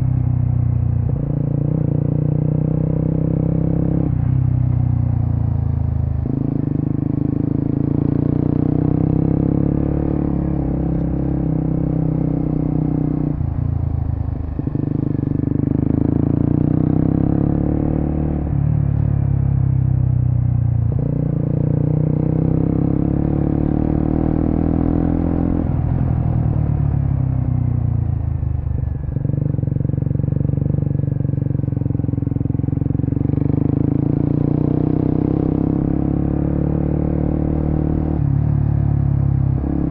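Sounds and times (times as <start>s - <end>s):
motorcycle engine revving: 1.0s - 19.0s, 20.9s - 39.9s.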